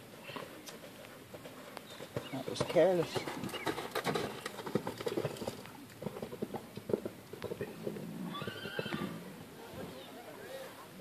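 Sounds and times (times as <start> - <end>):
horse hoofbeats on sand: 0.0 - 9.2.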